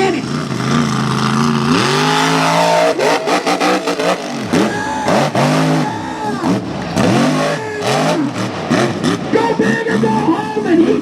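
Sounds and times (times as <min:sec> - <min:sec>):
truck engine revving: 0:00.0 - 0:10.5.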